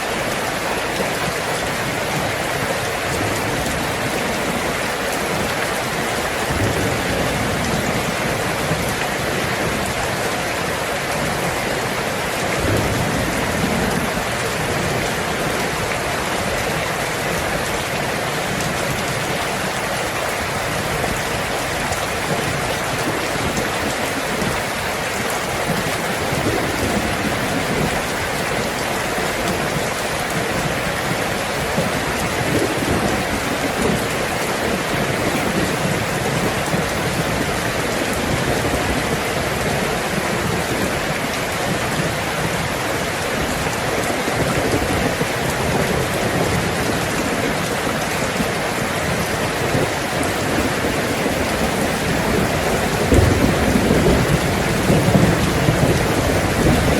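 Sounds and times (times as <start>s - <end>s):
heavy rain on a tin roof: 0.0s - 56.9s
low thunder rumbling: 0.1s - 56.9s.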